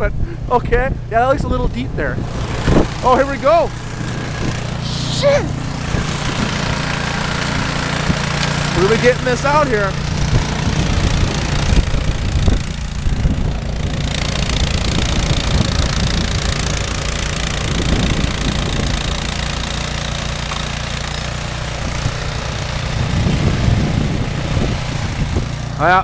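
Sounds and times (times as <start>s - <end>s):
snowblower engine running: 0.0s - 26.0s.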